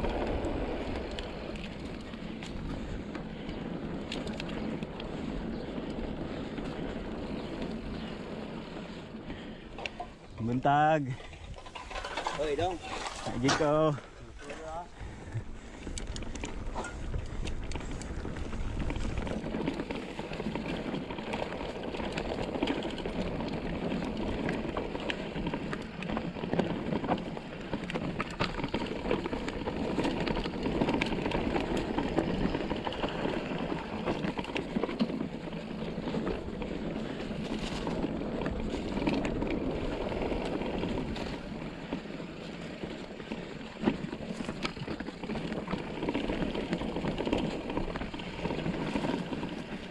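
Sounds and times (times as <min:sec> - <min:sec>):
bike clicks and rattles: 0:00.0 - 0:49.9
bike tyres crunching on gravel: 0:00.0 - 0:49.9.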